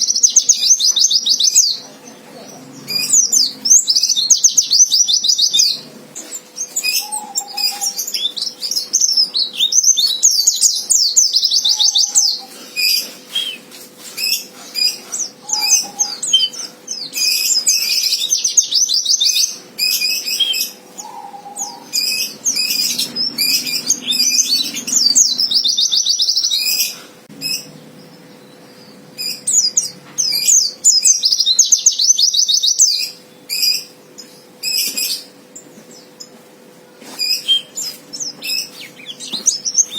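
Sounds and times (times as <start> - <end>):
bird lower chirps: 2.6 - 35.3.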